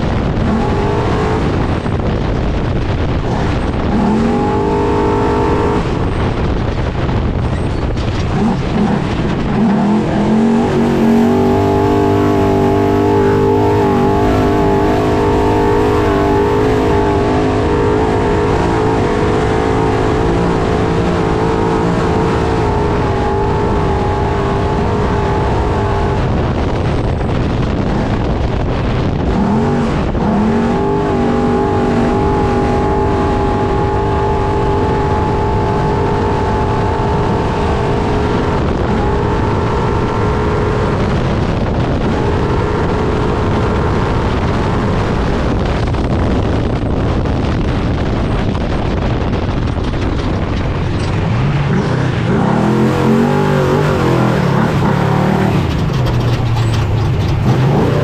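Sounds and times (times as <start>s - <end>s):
truck engine at high revs: 0.0s - 58.0s
tyre terrain and wind noise: 0.0s - 58.0s.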